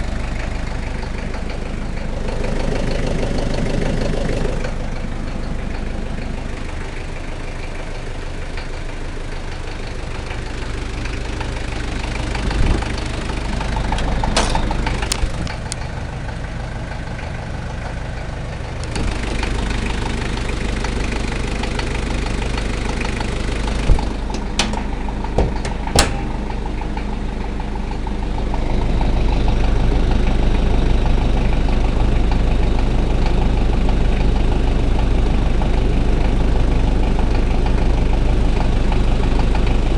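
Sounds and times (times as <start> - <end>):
diesel engine idling with knocking: 0.0 - 39.9.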